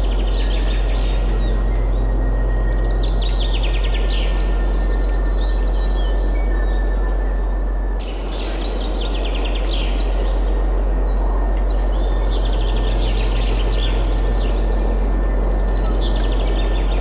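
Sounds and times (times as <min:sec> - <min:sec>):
songbirds trilling: 0:00.0 - 0:17.0
steady wind: 0:00.0 - 0:17.0.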